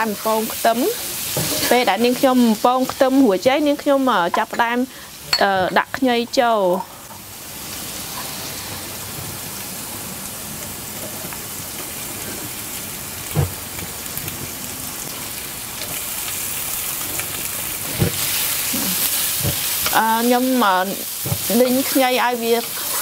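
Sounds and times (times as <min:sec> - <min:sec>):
aromatics sizzling in hot oil: 0:00.0 - 0:23.0.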